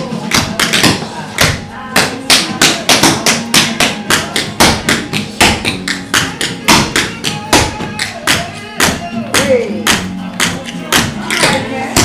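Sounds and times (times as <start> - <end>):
tap shoes on hard floor: 0.0 - 12.0.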